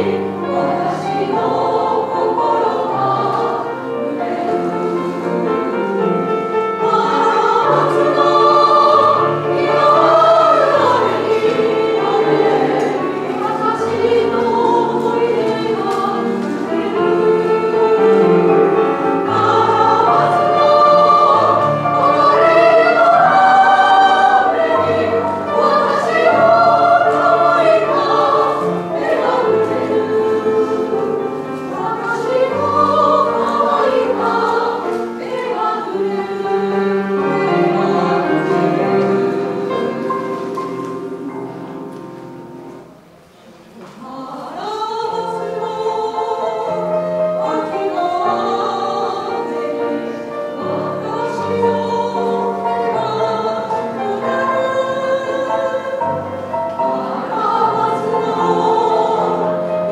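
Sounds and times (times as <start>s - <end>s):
piano accompaniment: 0.0s - 59.9s
women's choir singing: 0.0s - 59.9s.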